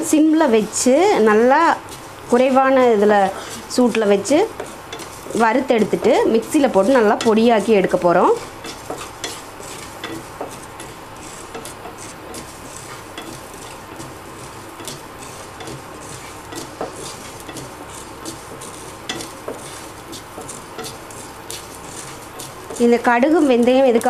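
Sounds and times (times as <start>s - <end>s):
spatula stirring seeds in a pan: 0.0s - 24.0s.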